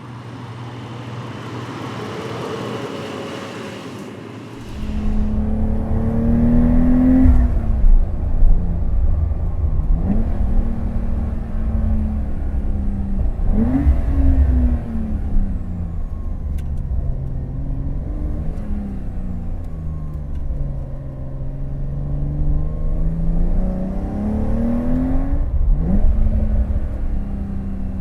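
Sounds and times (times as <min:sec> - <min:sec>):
car engine and exhaust revving: 0:00.0 - 0:28.0.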